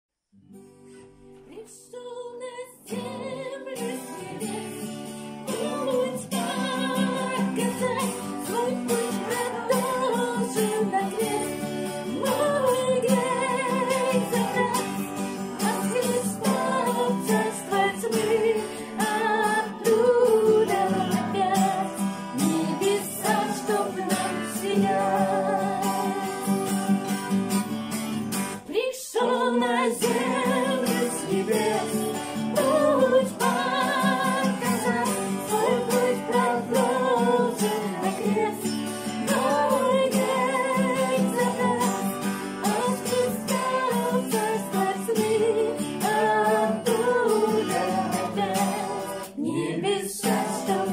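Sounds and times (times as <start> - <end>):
guitar accompaniment: 0.4 - 50.9
person singing with vibrato: 1.5 - 27.3, 28.6 - 50.9.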